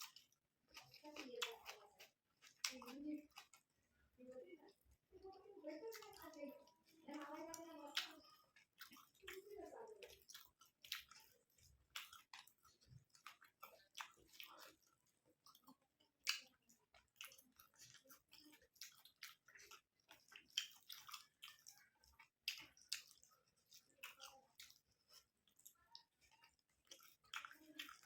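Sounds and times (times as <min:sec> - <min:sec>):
wet chewing mouth sounds: 0:00.0 - 0:28.0.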